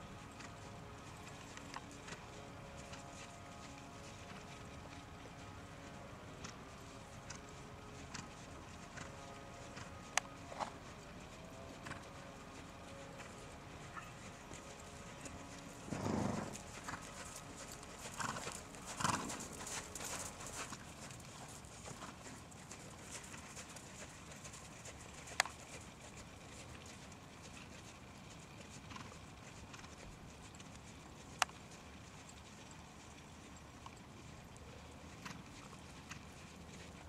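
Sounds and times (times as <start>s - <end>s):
hooves trotting on sand: 0.0s - 37.0s.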